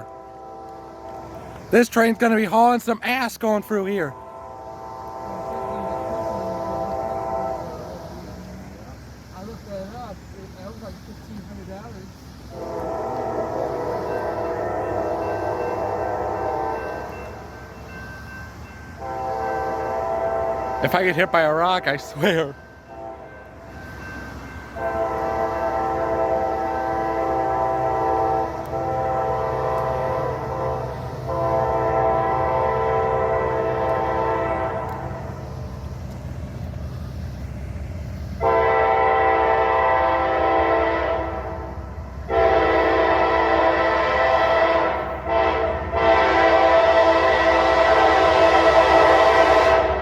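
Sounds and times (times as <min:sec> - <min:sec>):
train air horn blasts: 0:00.0 - 0:08.8, 0:12.5 - 0:17.5, 0:19.0 - 0:23.5, 0:24.8 - 0:35.6, 0:38.4 - 0:50.0
train rumbling: 0:00.0 - 0:50.0.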